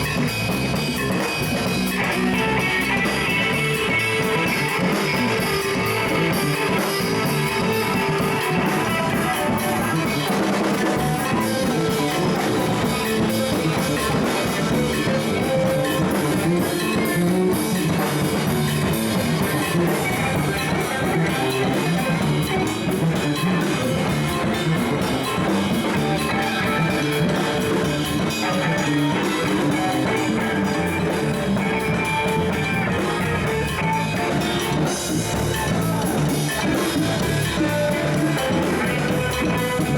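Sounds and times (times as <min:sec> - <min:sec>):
drum kit steady beat: 0:00.0 - 0:39.9
electric guitar: 0:00.0 - 0:39.9.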